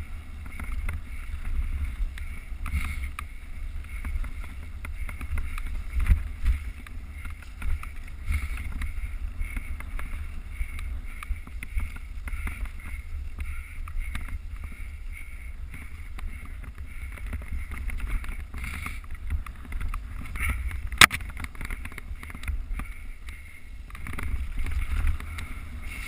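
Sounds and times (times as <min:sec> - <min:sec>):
bike clicks and knocks: 0:00.0 - 0:26.0
wind rumbling on microphone: 0:00.0 - 0:26.0.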